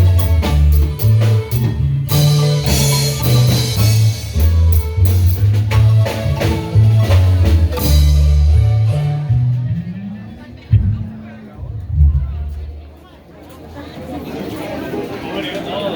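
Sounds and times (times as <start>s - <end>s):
marimba band playing: 0.0s - 12.8s.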